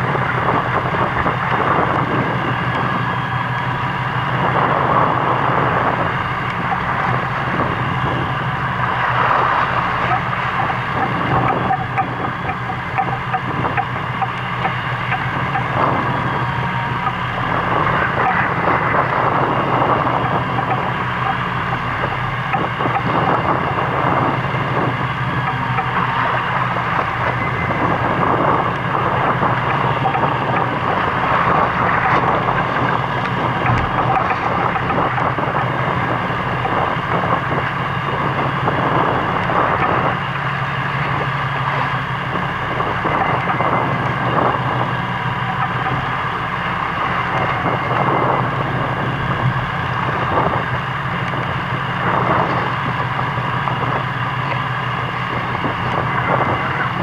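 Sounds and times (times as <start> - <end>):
boat engine humming: 0.0 - 57.0
water noise: 0.0 - 57.0
wind: 0.0 - 57.0.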